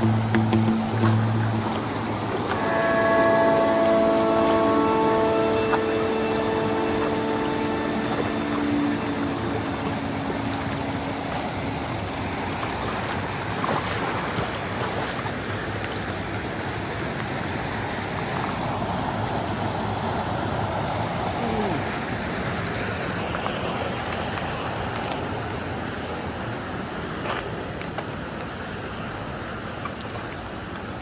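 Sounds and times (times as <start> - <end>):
waterfall rushing: 0.0 - 27.1.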